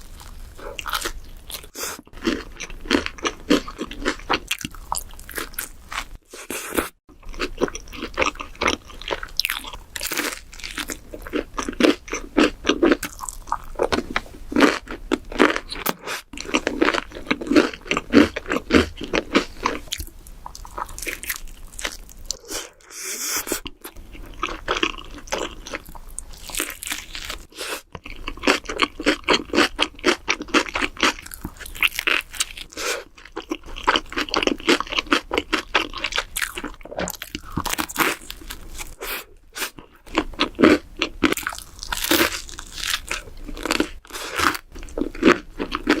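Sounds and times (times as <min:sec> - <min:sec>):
close chewing with crunches: 0:00.0 - 0:46.0.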